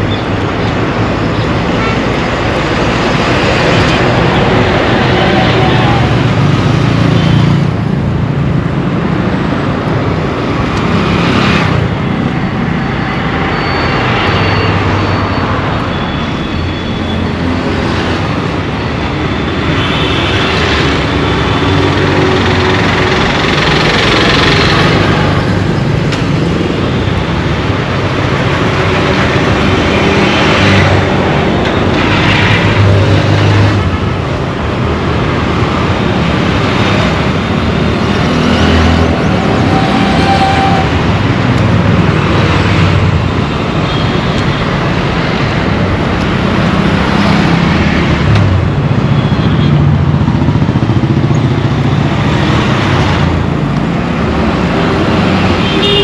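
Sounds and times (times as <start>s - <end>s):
tyre and road noise: 0.0s - 56.0s
vehicle engines passing: 0.0s - 56.0s.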